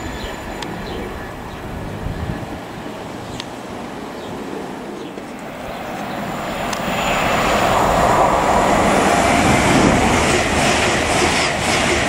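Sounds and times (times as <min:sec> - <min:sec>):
high-speed train rushing roar: 0:00.0 - 0:12.0.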